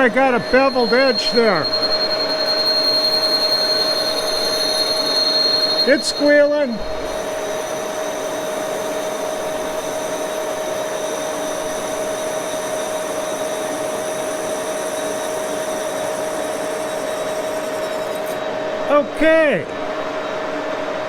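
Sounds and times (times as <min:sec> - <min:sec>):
high-pitched squeal: 0:00.0 - 0:18.5
lathe running: 0:00.0 - 0:18.9.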